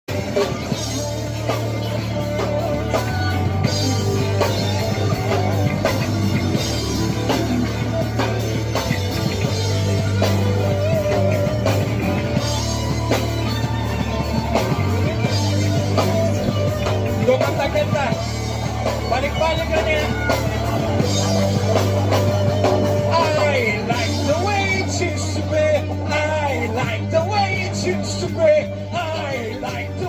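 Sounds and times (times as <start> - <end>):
bass line: 0.1 - 30.0
drum kit beat: 0.1 - 30.0
guitar melody: 0.1 - 30.0.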